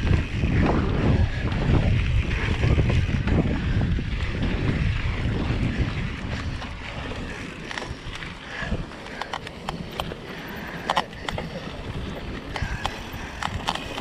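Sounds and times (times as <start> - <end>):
bike clicks and rattles: 0.0 - 14.0
bike rolling on dirt trail: 0.0 - 14.0
wind buffeting microphone: 0.0 - 14.0.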